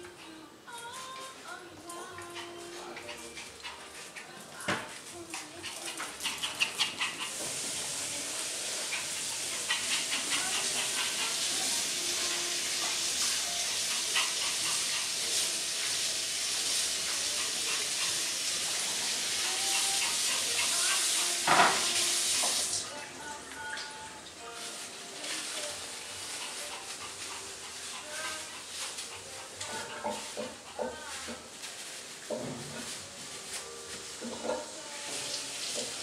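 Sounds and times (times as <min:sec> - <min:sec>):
steady hiss: 0:04.0 - 0:22.9, 0:24.0 - 0:36.0.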